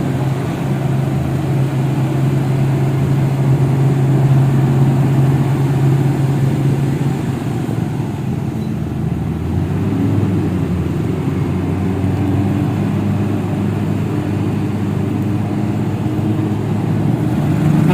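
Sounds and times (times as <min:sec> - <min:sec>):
truck diesel engine running: 0:00.0 - 0:17.9.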